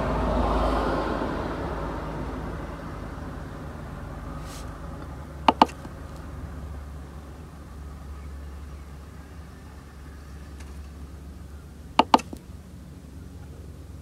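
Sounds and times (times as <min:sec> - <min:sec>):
heater fan humming: 0:02.4 - 0:14.0.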